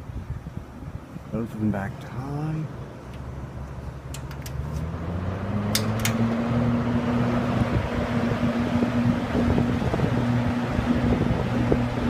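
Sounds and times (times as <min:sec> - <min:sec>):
box fans running: 0:00.0 - 0:12.0.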